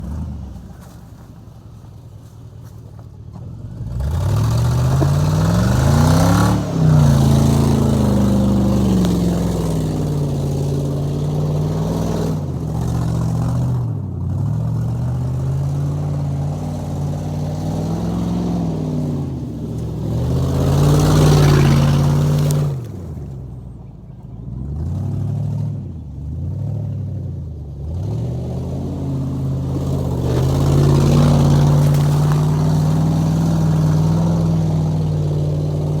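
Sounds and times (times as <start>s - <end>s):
engine with exhaust leak revving: 3.8s - 23.6s, 24.6s - 36.0s.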